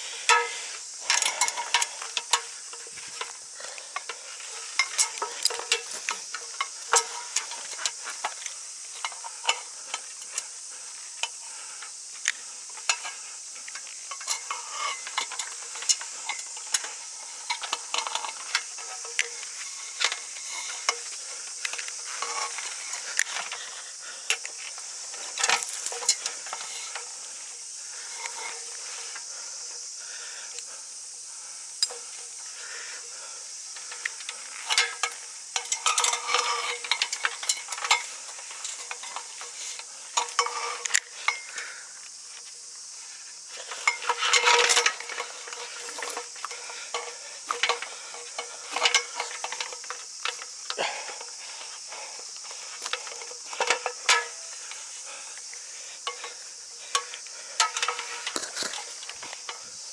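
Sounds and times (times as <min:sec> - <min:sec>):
crackling and rustling clicks: 0:00.0 - 0:29.4, 0:33.6 - 0:59.9
steady high hiss: 0:00.0 - 0:59.9.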